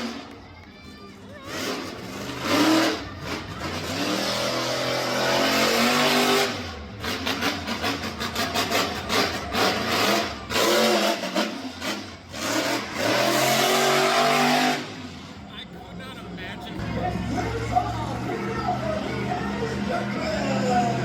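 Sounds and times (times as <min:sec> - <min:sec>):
monster truck engine revving: 0:00.0 - 0:00.4, 0:01.4 - 0:21.0.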